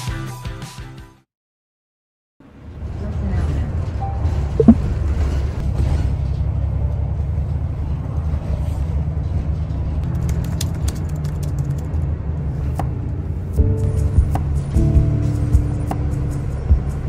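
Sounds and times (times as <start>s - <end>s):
bus engine and road rumble: 2.4s - 17.0s.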